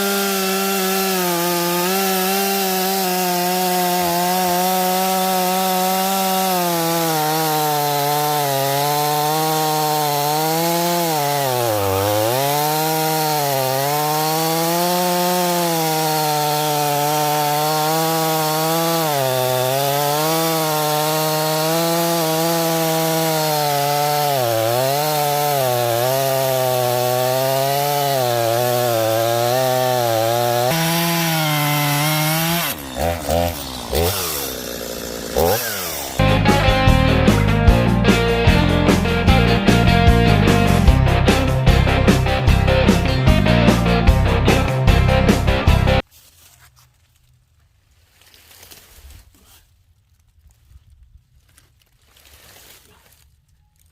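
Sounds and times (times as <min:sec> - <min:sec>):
chainsaw cutting wood: 0:00.0 - 0:46.1.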